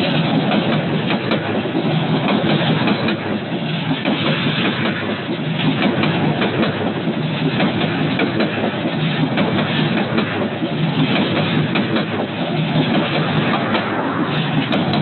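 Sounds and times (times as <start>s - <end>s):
train wheels on rails: 0.0s - 15.0s
wheels clicking over rail joints: 0.0s - 15.0s.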